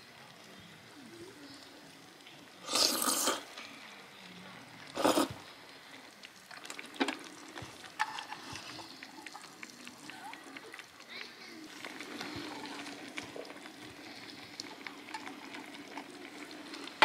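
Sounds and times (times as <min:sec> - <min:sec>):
broth simmering: 0:00.0 - 0:17.0
liquid bursts: 0:00.0 - 0:17.0.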